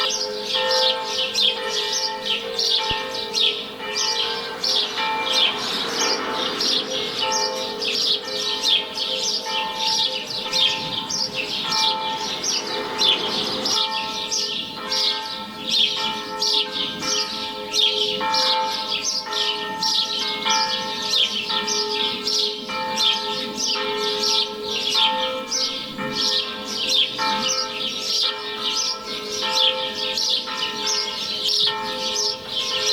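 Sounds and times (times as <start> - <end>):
church bells ringing: 0.0 - 32.9.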